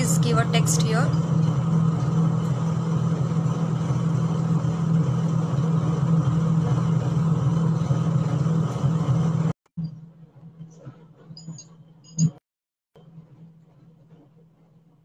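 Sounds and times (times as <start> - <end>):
low mechanical drone: 0.0 - 12.4.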